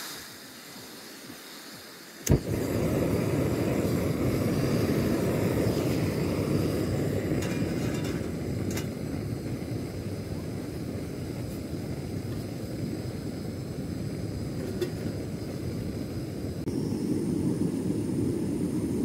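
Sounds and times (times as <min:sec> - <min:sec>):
gas stove burning: 0:00.0 - 0:19.0.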